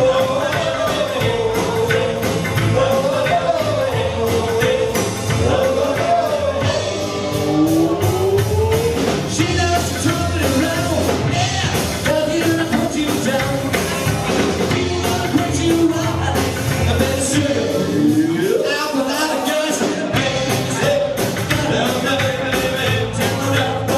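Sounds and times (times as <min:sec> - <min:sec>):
person singing: 0:00.0 - 0:13.8, 0:14.7 - 0:23.9
live rock band playing: 0:00.0 - 0:23.9
steady drum beat: 0:00.0 - 0:23.9.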